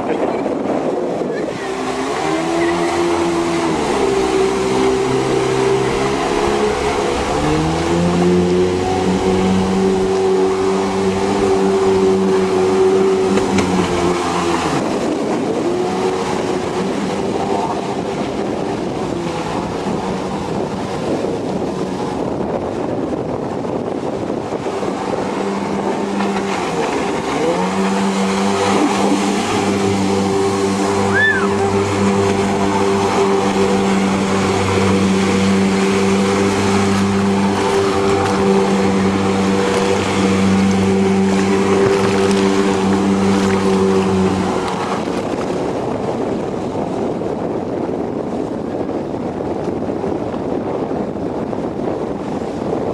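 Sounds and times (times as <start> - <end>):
jet ski engine drone: 0.0 - 52.9.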